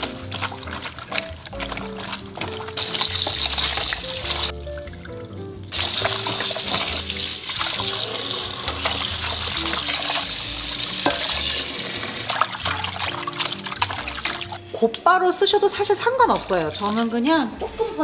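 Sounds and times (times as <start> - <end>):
tap water running into sink: 0.0 - 14.6
soft background music: 0.0 - 18.0.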